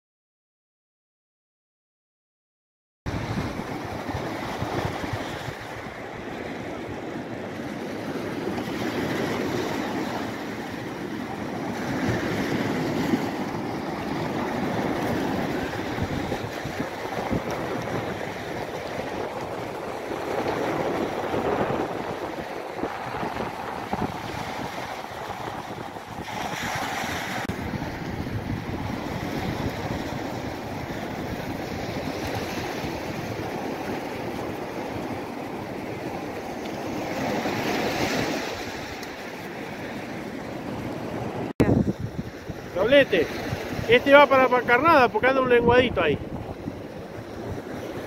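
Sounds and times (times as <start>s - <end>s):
surf breaking on pebbly shore: 3.1s - 48.0s
wind buffeting microphone: 3.1s - 48.0s.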